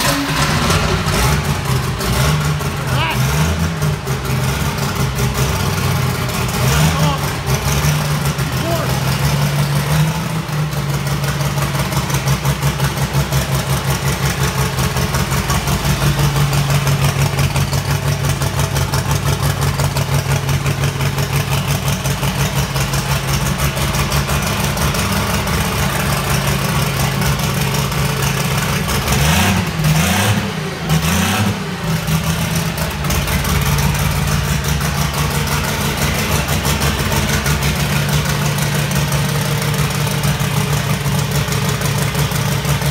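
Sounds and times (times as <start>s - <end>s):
tractor engine idling and revving: 0.0s - 42.9s.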